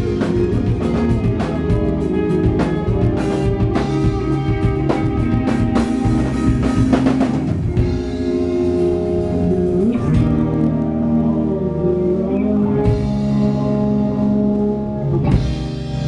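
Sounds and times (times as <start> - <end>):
drum kit: 0.0 - 16.0
electric guitar chords: 0.0 - 16.0.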